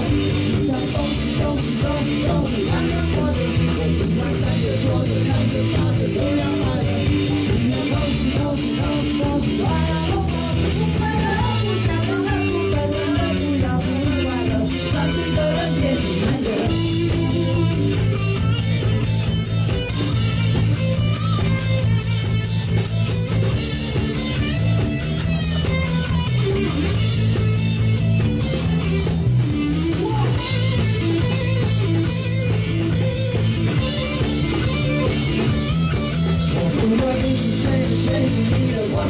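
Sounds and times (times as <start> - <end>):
electric guitar: 0.0 - 39.0
live rock band playing: 0.0 - 39.0.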